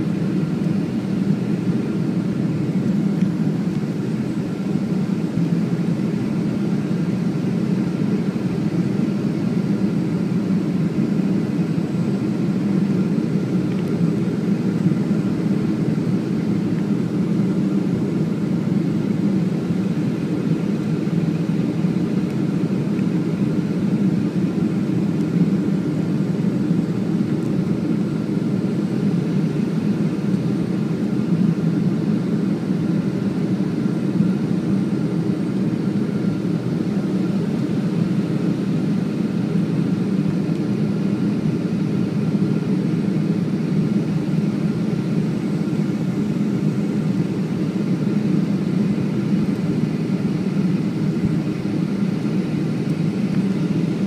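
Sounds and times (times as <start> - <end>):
airplane cabin engine drone: 0.0 - 54.0
faint steady whining tones: 0.0 - 54.0.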